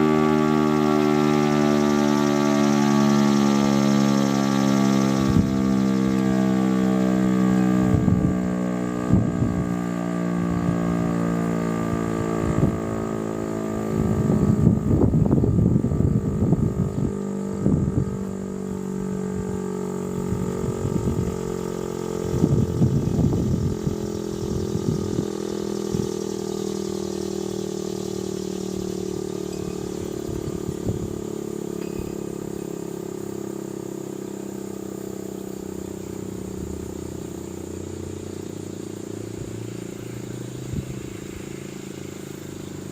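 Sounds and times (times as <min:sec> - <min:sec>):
irregular rumbling bursts: 0:00.0 - 0:42.9
warning siren winding down: 0:00.0 - 0:42.9.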